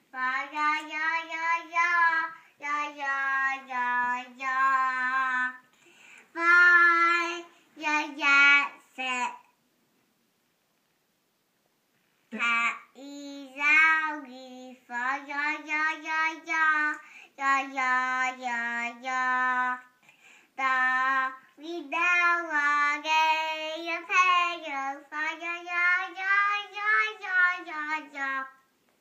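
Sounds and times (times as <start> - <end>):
child singing: 0.0 - 5.7, 6.3 - 9.6, 12.3 - 20.0, 20.6 - 28.7.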